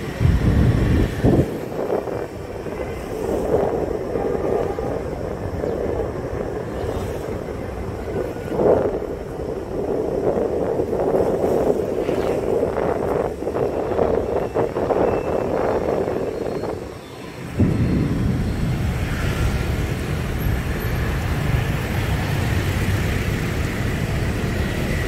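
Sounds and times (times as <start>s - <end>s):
road traffic noise: 0.0s - 25.0s
wind on microphone: 0.0s - 25.0s.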